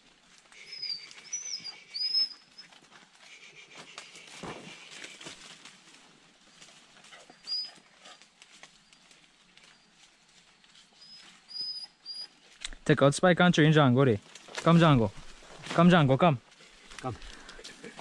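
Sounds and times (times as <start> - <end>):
rustling and scratching in soil: 0.0 - 18.0.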